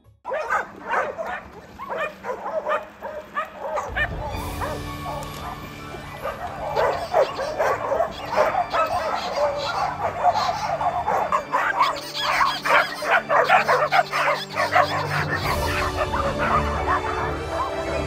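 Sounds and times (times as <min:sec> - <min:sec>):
dogs barking and yipping: 0:00.3 - 0:18.0.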